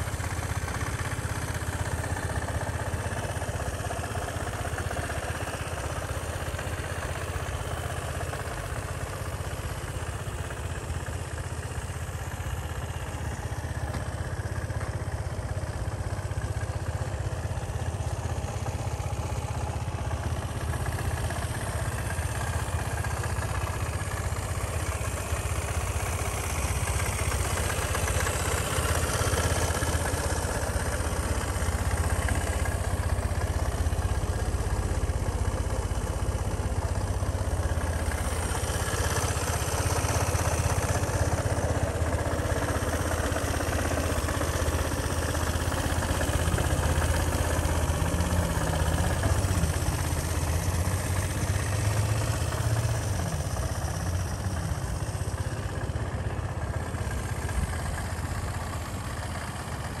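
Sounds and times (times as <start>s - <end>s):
scooter engine idling: 0.0s - 60.0s.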